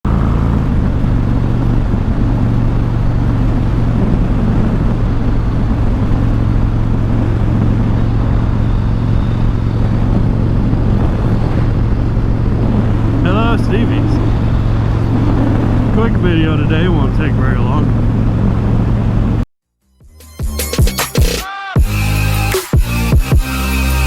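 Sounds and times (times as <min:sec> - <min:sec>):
motorcycle engine cruising: 0:00.0 - 0:19.4
wind noise: 0:00.1 - 0:19.4.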